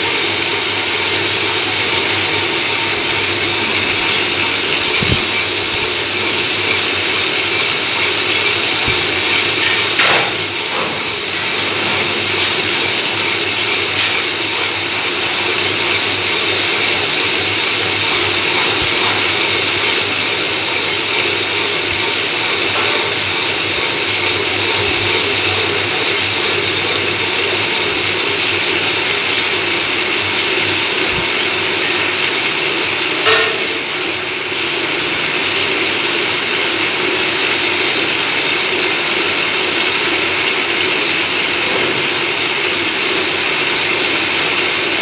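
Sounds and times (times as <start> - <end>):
metal lathe running: 0.0 - 45.0.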